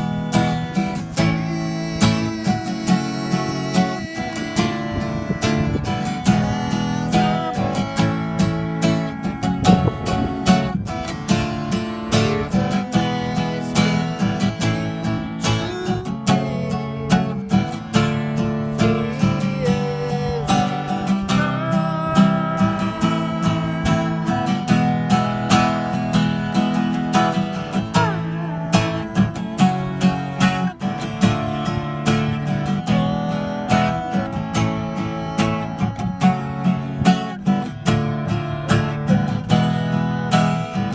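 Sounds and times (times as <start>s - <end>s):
strummed acoustic guitar: 0.0s - 40.9s.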